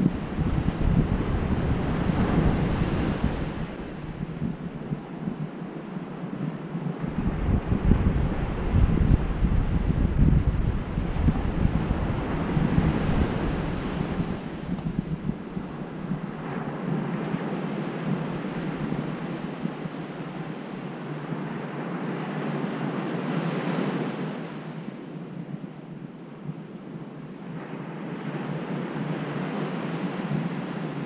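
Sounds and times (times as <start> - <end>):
wind buffeting microphone: 0.0 - 24.4, 27.4 - 31.0
ocean surf breaking on beach: 0.0 - 25.8, 26.6 - 31.0.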